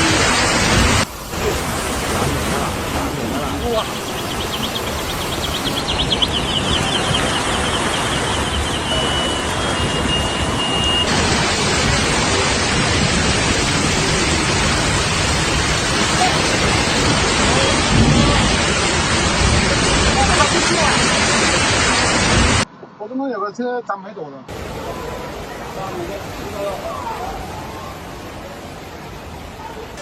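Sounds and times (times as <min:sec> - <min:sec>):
floodwater and rain rushing: 0:00.0 - 0:22.7, 0:24.5 - 0:30.0.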